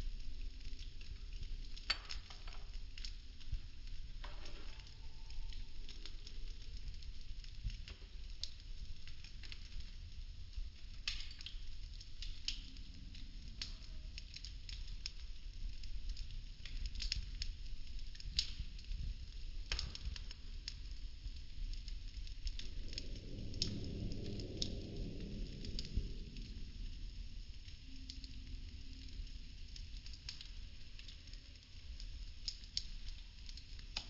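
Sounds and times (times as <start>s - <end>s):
fire rumbling: 0.0s - 34.0s
wood crackling and popping: 0.0s - 34.0s.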